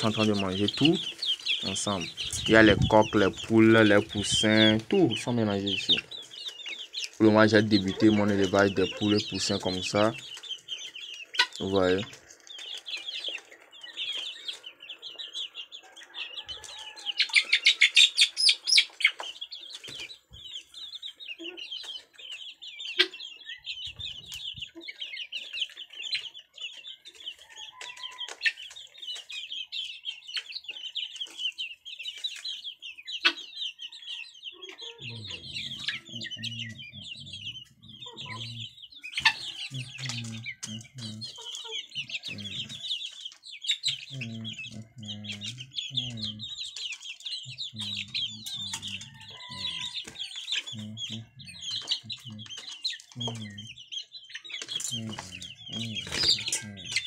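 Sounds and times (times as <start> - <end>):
chicks peeping: 0.0 - 57.0
hens clucking: 0.0 - 57.0.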